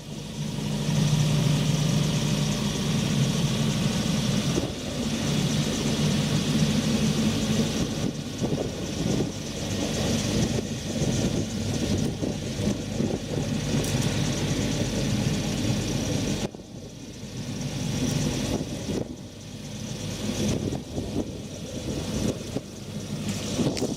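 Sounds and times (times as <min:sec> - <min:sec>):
diesel generator running: 0:00.0 - 0:23.9.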